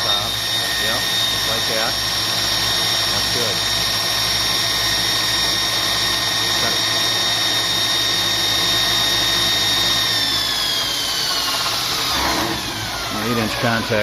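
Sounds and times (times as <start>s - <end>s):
belt sander whining: 0.0s - 14.0s.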